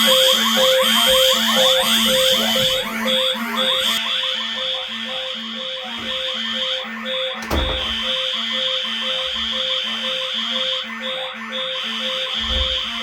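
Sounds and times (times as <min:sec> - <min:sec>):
fire alarm tones clashing: 0:00.0 - 0:13.0.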